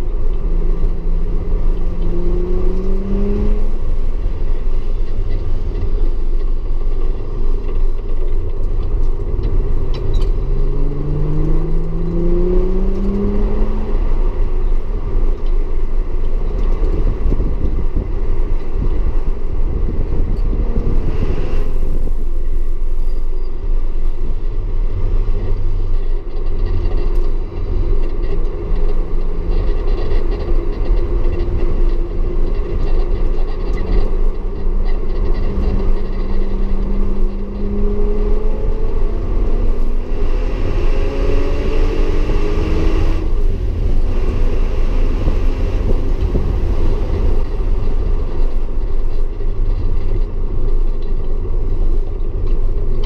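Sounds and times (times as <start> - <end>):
car engine rumbling under load: 0.0 - 53.0.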